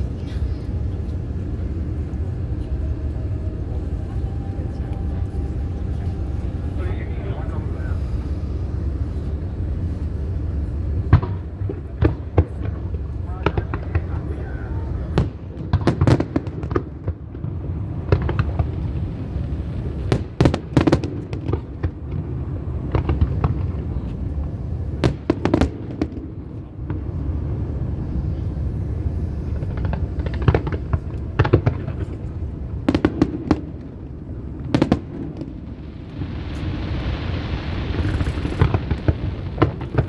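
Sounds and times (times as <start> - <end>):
fireworks bursting: 0.0 - 40.0
low rumble: 0.0 - 40.0.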